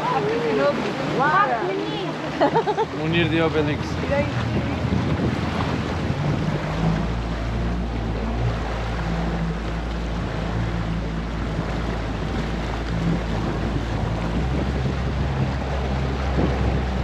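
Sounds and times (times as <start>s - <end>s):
boat motor humming: 0.0s - 17.0s
water noise: 0.0s - 17.0s
wind on microphone: 0.0s - 17.0s.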